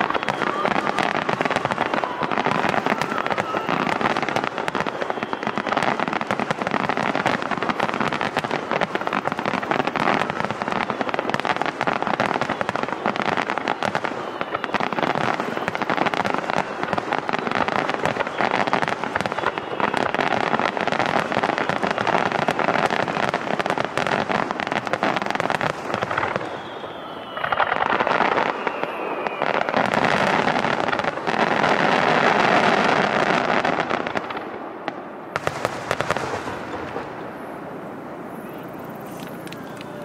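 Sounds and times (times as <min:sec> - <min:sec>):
firework falling whistle: 0:00.0 - 0:40.0
fireworks bursting and crackling: 0:00.0 - 0:40.0.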